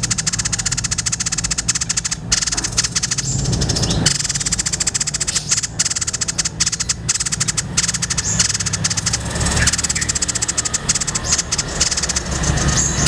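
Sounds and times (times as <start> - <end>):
bird rattling chatter: 0.0 - 13.0
steady low hum: 0.0 - 13.0.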